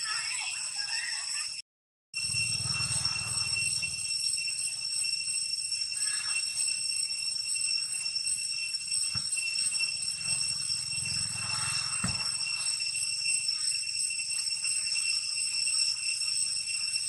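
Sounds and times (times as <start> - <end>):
high-pitched drone: 2.2 - 17.0.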